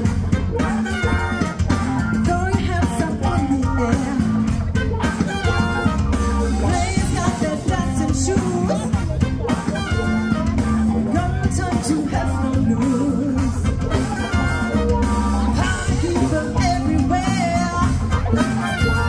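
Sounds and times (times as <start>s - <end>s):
band playing upbeat song: 0.0s - 19.0s
person singing: 2.1s - 10.2s, 10.9s - 19.0s.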